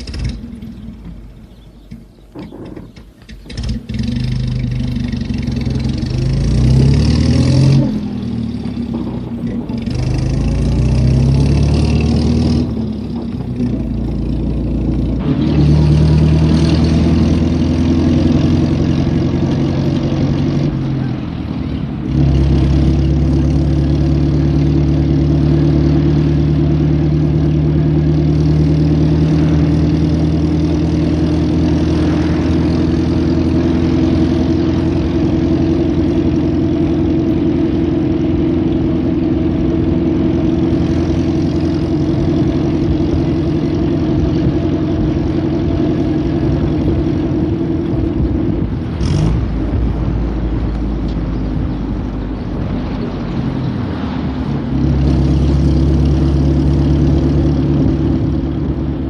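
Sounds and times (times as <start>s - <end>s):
vintage car engine running: 0.0s - 59.0s.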